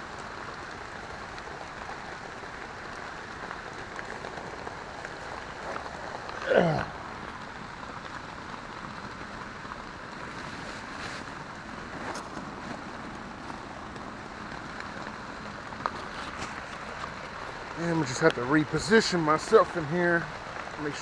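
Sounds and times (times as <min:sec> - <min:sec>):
heavy rain on a tent: 0:00.0 - 0:21.0.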